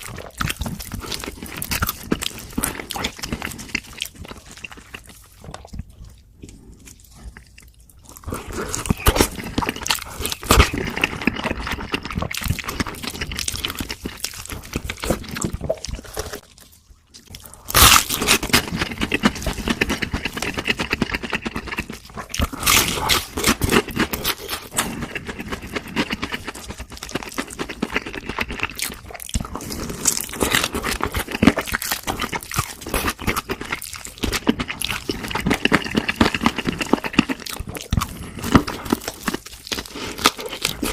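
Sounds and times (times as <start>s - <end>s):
crunching and chewing crispy food: 0.0s - 40.9s.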